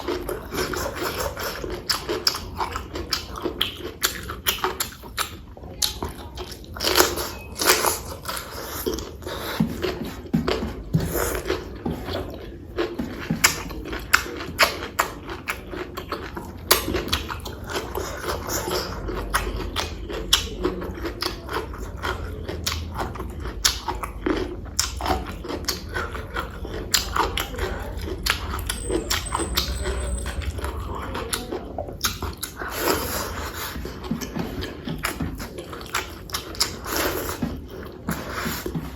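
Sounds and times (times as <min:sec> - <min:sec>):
chewing and biting: 0:00.0 - 0:38.9.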